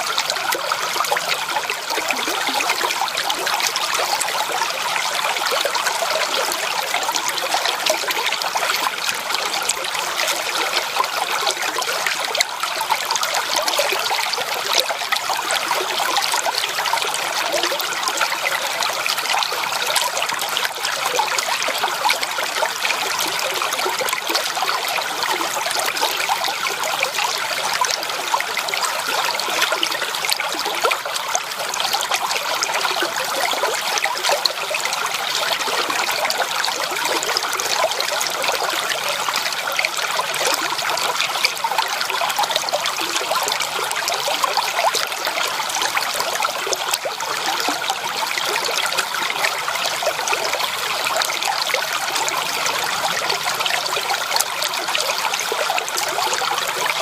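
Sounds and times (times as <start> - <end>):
creek water trickling over stones: 0.0 - 57.0.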